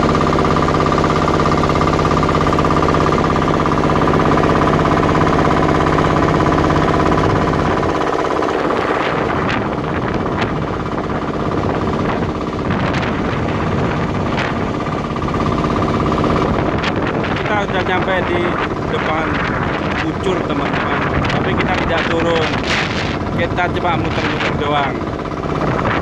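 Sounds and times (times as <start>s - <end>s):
boat motor droning: 0.0s - 26.0s.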